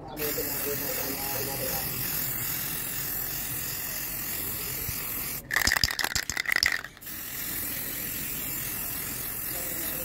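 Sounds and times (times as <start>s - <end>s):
spray can ball rattling: 0.2s - 10.0s.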